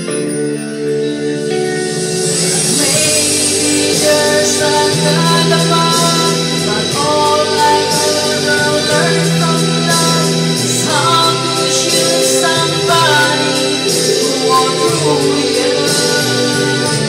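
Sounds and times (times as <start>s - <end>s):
instrumental backing music: 0.0s - 17.0s
woman singing into microphone: 2.4s - 17.0s.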